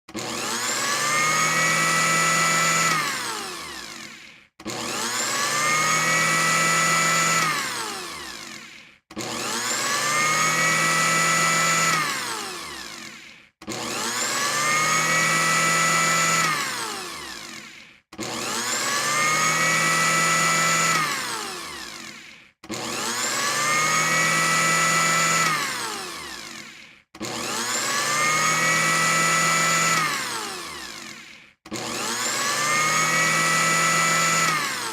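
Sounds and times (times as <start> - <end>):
blender motor whining: 0.0 - 34.9.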